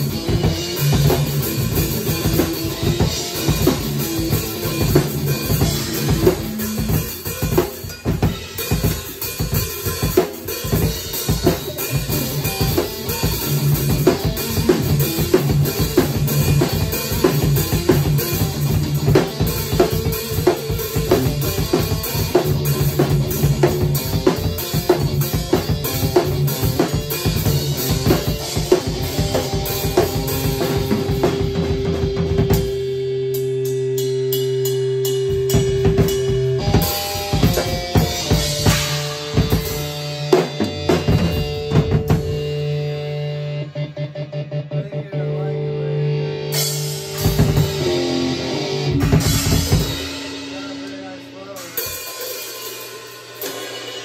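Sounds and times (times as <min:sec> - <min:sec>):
electric guitar notes: 0:00.0 - 0:52.5
rock drum kit beat: 0:00.0 - 0:54.0.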